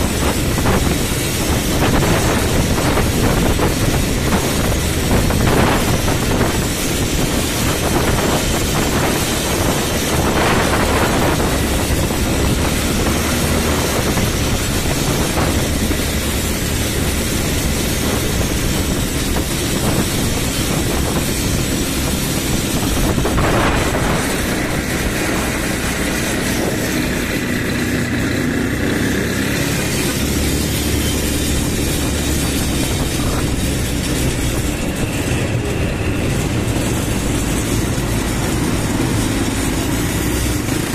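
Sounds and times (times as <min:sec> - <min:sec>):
quad bike engines droning: 0:00.0 - 0:40.9
road noise: 0:00.0 - 0:40.9.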